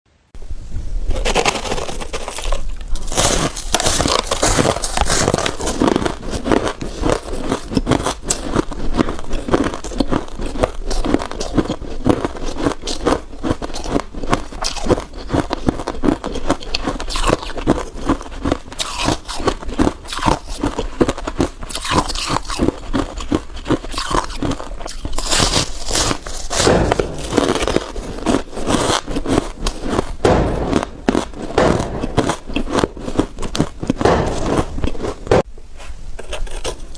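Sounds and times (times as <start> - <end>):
frost crunching being chewed: 1.2 - 35.5, 36.2 - 36.9.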